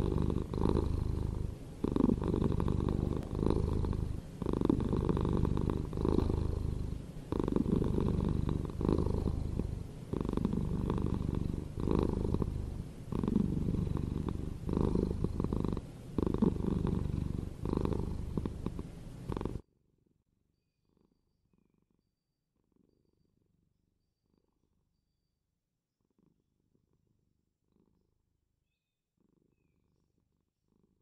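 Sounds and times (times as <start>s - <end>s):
cat purring: 0.0s - 25.0s, 26.0s - 28.4s, 29.2s - 31.0s.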